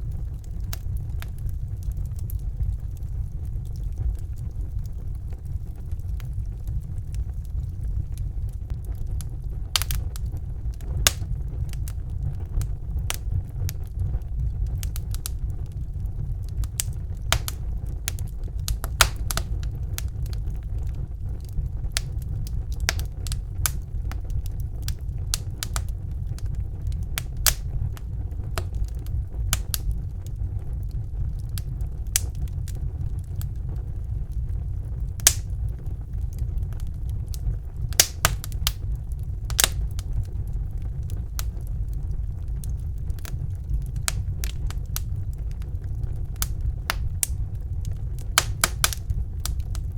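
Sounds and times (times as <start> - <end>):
fire crackles and pops: 0.0 - 49.9
wood fire roaring: 0.0 - 49.9.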